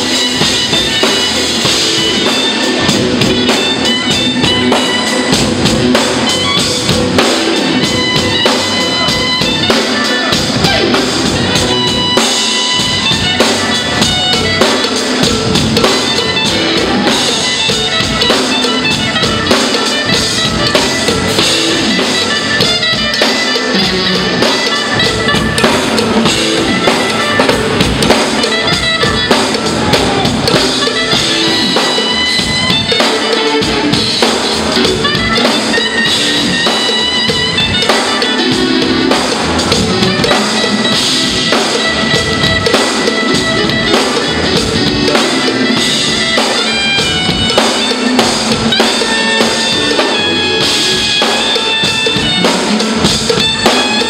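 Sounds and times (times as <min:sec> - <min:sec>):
drum kit cymbals and drums: 0:00.0 - 0:54.0
jazz band playing: 0:00.0 - 0:54.0.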